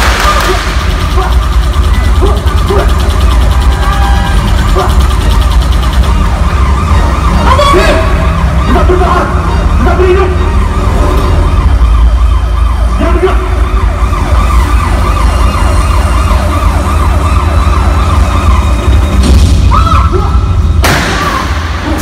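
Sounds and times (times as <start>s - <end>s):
siren wail: 0.0s - 22.0s
steady deep rumble: 0.0s - 22.0s.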